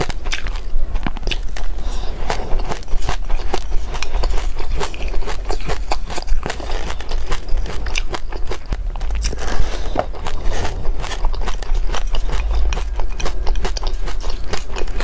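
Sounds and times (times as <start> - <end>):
chewing crunchy seeds: 0.0 - 15.0.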